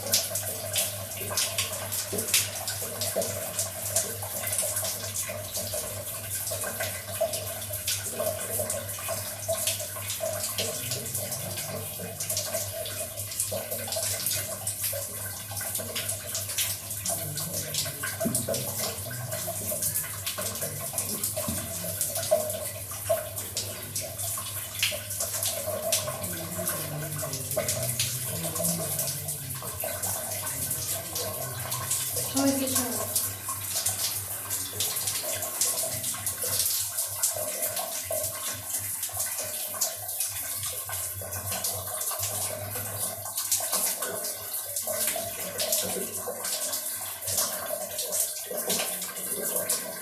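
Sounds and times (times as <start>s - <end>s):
water running and splashing: 0.0s - 50.0s.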